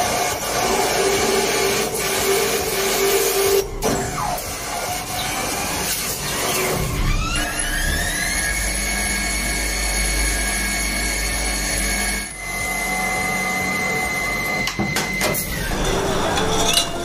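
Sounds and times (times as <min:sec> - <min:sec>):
lathe cutting metal: 0:00.0 - 0:17.0.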